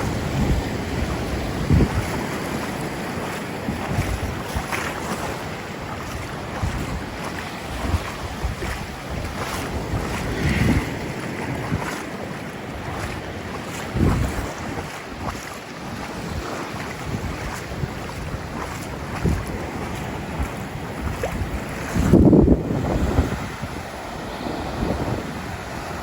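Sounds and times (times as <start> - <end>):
ocean waves on sandy shore: 0.0 - 26.0
wind buffeting microphone: 0.0 - 26.0.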